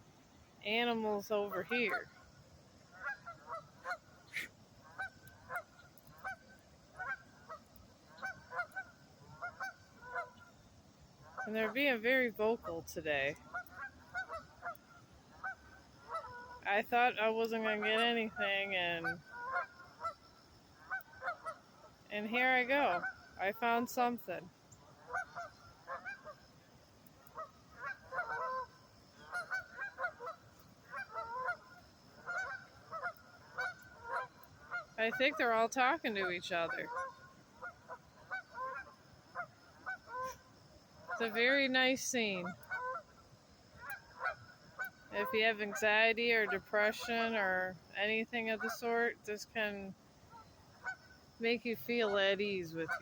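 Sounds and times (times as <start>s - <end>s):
geese honking: 0.7s - 49.7s, 50.3s - 53.0s.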